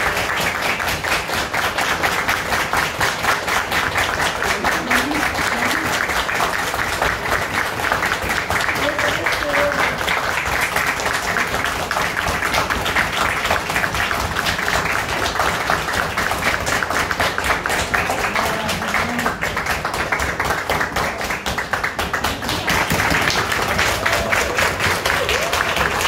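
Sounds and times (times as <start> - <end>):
group applauding: 0.0 - 26.0.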